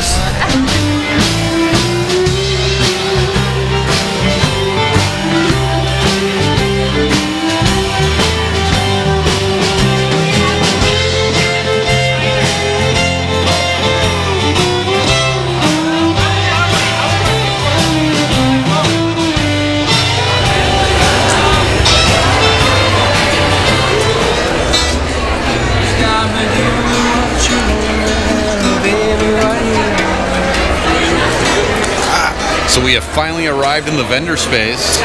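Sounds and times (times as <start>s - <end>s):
rock and roll band music: 0.0s - 35.0s.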